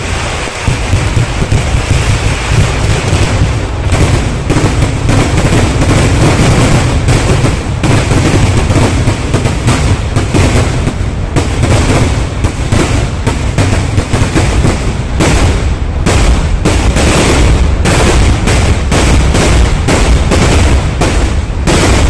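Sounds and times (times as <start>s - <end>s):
firecrackers crackling: 0.0s - 22.0s
fireworks bangs and booms: 0.0s - 22.0s.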